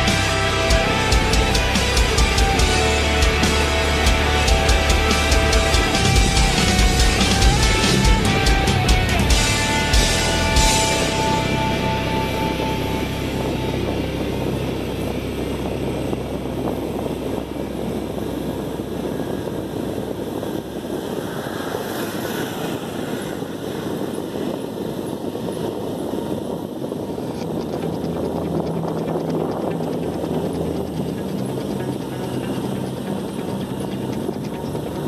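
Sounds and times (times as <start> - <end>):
motorcycle engine running: 0.0 - 21.1, 27.1 - 35.0
wind on microphone: 0.0 - 35.0.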